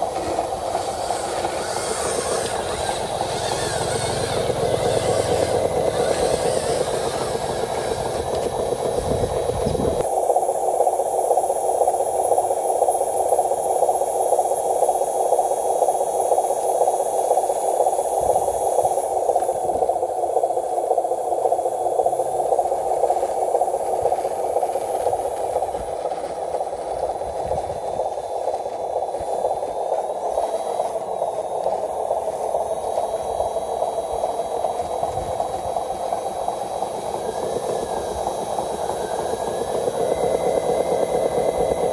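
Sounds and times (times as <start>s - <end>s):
small motor buzzing: 0.0s - 10.0s, 15.0s - 41.9s.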